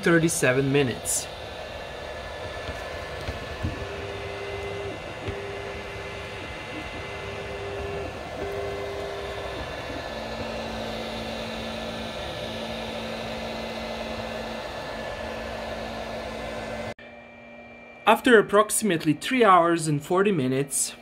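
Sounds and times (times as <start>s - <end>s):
humming printer motor: 0.0s - 18.0s.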